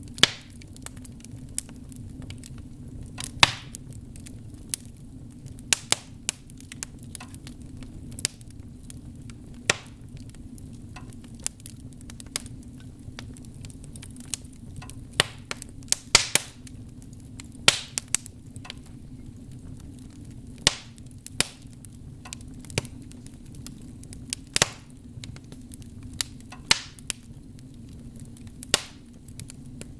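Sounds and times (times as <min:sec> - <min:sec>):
fire crackling and popping: 0:00.0 - 0:29.9
low rumble of flames: 0:00.0 - 0:29.9.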